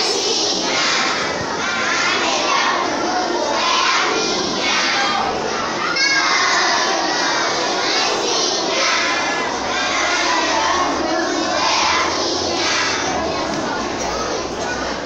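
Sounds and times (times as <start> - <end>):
children shouting and cheering: 0.0 - 15.0.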